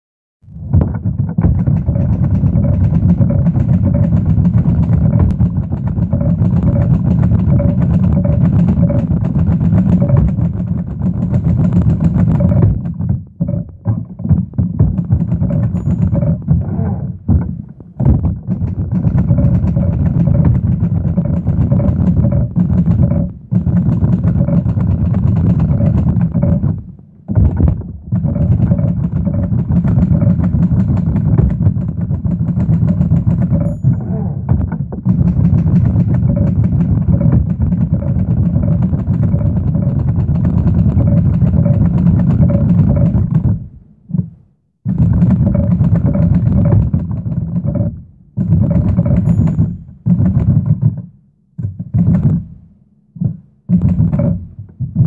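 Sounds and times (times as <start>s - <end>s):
manual typewriter clattering: 0.8s - 13.2s, 13.8s - 43.7s, 44.9s - 52.4s.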